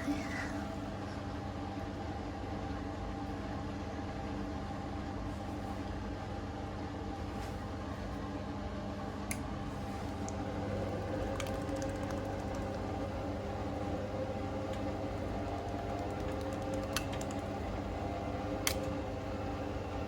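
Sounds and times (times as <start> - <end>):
washing machine motor humming: 0.0 - 20.0.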